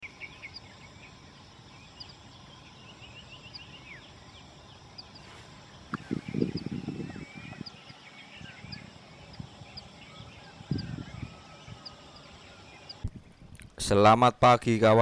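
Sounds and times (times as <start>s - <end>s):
birds chirping and trilling: 0.0s - 13.6s.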